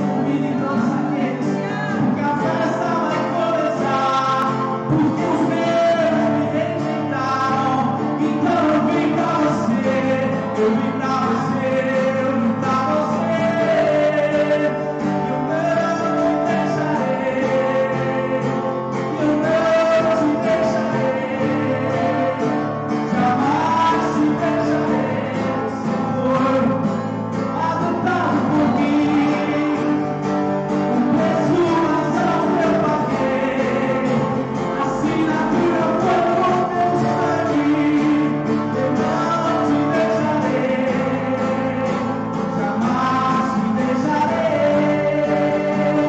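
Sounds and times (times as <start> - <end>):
acoustic guitar strumming: 0.0 - 46.0
man and woman singing: 0.0 - 46.0.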